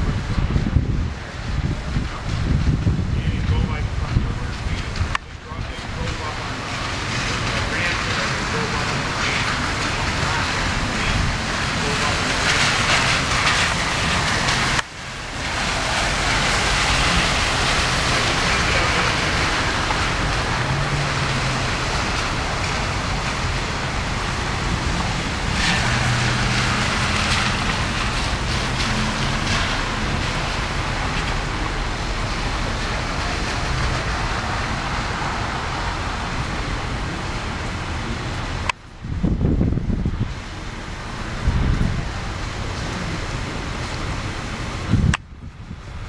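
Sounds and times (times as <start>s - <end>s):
rain: 0.0s - 46.0s
vehicle engine humming: 0.0s - 46.0s
wet street traffic: 0.0s - 46.0s.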